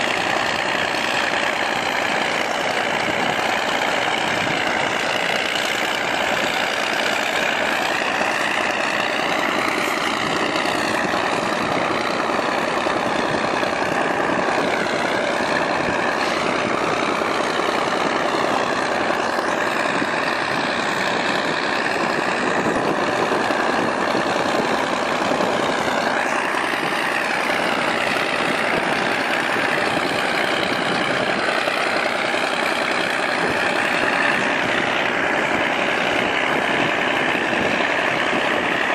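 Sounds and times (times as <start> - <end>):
snow blower engine drone: 0.0 - 38.9.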